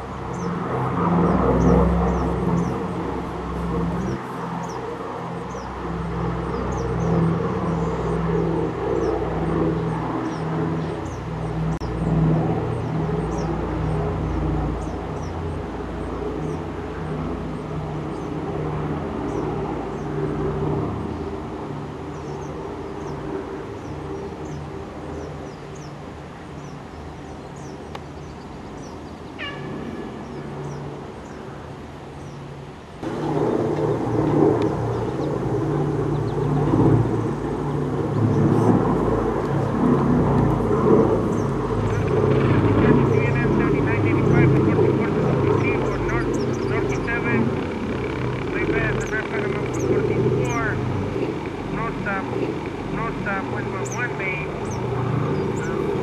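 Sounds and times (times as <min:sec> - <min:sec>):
small birds chirping: 0:00.0 - 0:21.4, 0:22.0 - 0:31.5, 0:32.2 - 0:32.6, 0:33.4 - 0:39.0, 0:40.4 - 0:56.0
propeller plane engines droning: 0:00.0 - 0:56.0.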